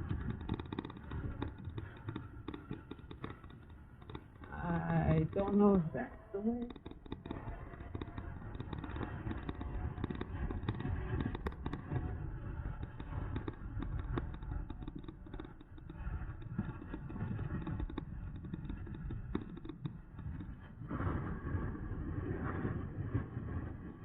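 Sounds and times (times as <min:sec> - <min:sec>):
bike tyres rolling: 0:00.0 - 0:23.9
wind buffeting microphone: 0:00.0 - 0:24.0.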